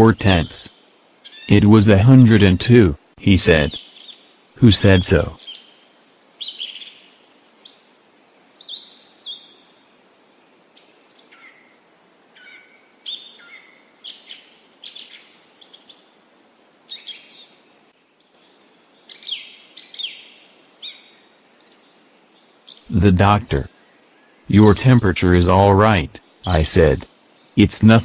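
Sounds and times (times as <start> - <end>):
faint steady hiss: 0.0 - 28.0
songbirds chirping: 0.0 - 28.0.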